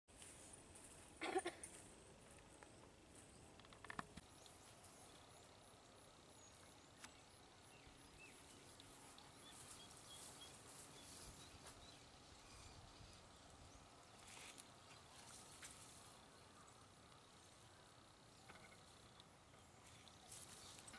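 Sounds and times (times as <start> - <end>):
distant birds chirping: 1.7 - 20.9.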